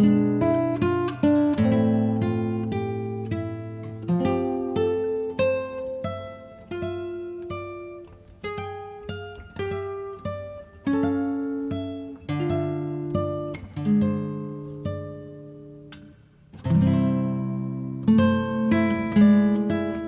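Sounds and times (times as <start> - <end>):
plucked acoustic guitar: 0.0 - 20.0.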